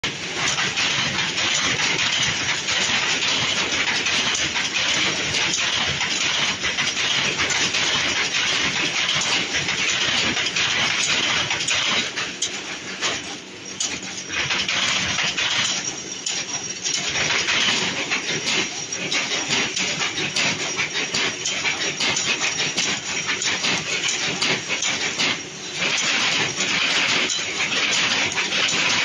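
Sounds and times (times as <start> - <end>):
weaving machine clattering: 0.0 - 29.0.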